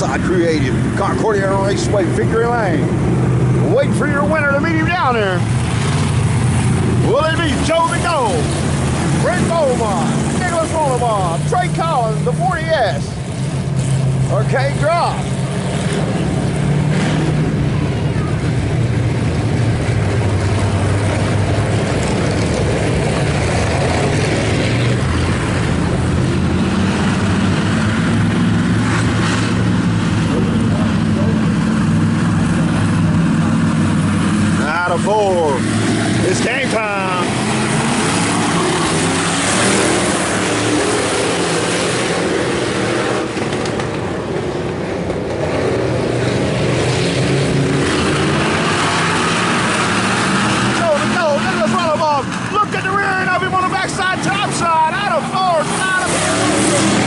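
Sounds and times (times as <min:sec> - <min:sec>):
race car engines running: 0:00.0 - 0:57.0.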